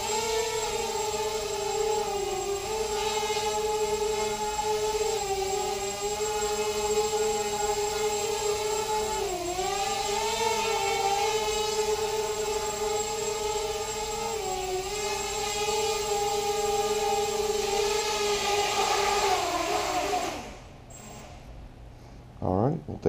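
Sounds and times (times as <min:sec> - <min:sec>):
quadcopter motors whining: 0:00.0 - 0:21.6.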